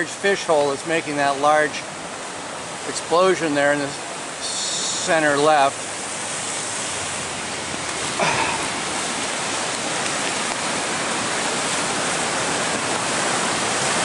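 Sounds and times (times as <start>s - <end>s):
floodwater rushing through creek: 0.0s - 14.0s.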